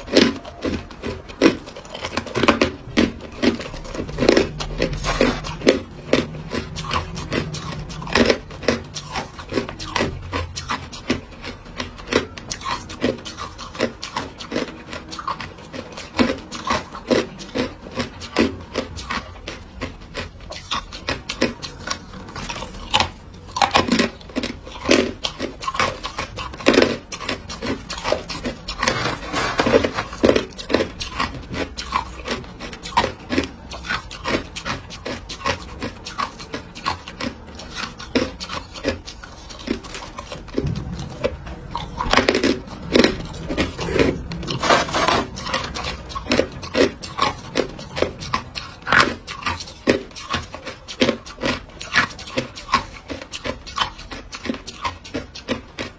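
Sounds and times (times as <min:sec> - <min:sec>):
ice chunks being chewed: 0:00.0 - 0:55.9.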